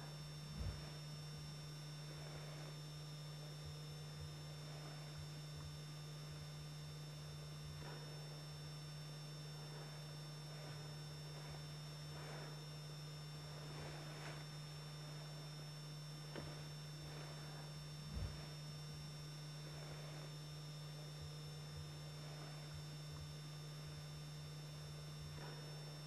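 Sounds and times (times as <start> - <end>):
thin high whines: 0.0 - 23.2, 23.8 - 26.0
low electrical hum: 0.0 - 26.0.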